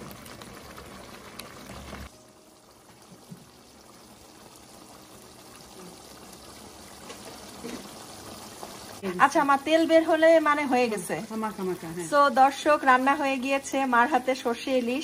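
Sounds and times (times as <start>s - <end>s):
gravy bubbling in a frying pan: 0.0s - 15.0s.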